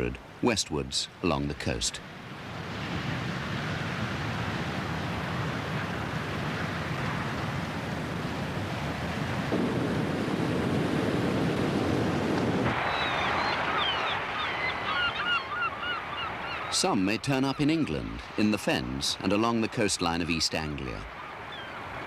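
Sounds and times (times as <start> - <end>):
surf rushing along coast: 0.0 - 22.0.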